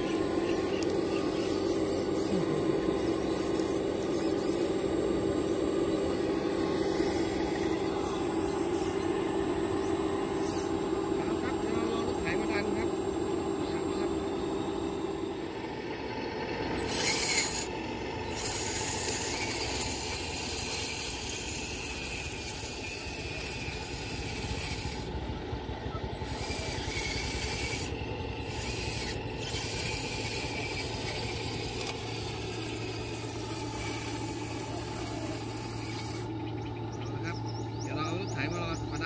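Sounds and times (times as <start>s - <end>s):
model excavator hydraulic whir: 0.0s - 39.0s.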